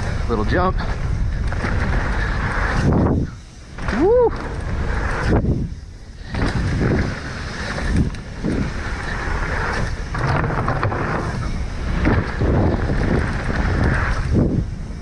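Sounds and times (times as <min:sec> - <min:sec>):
bike tyre and drivetrain rattle: 0:00.0 - 0:15.0
wind rushing over microphone: 0:00.0 - 0:15.0.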